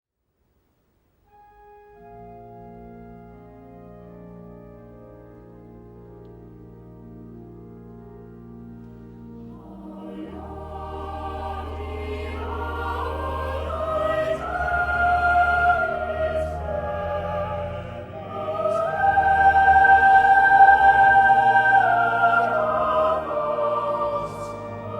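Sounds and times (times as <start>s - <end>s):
choral music with held notes: 1.3s - 24.9s.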